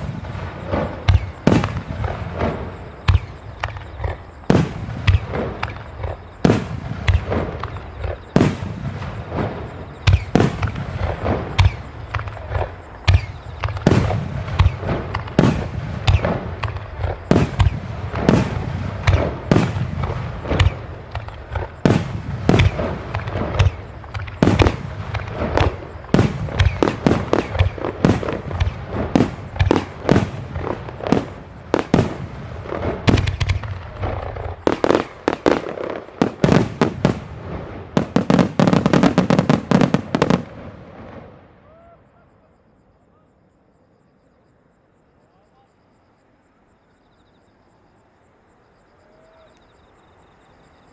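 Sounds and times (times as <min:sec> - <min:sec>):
rumble of echoing booms: 0:00.0 - 0:41.4.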